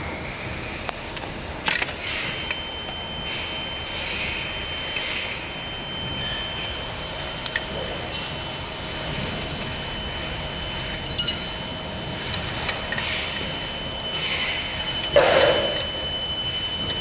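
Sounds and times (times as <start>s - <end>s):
mechanical hum and hiss: 0.0s - 17.0s
high whine: 2.3s - 17.0s.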